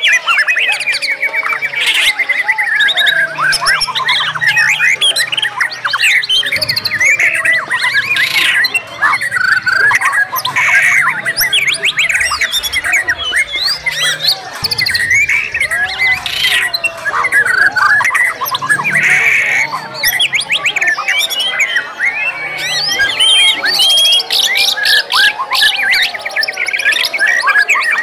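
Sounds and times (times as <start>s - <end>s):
songbirds singing chorus: 0.0s - 28.0s.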